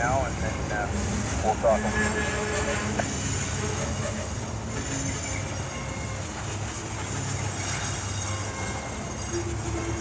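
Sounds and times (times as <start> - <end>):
freight train rumbling: 0.0 - 10.0.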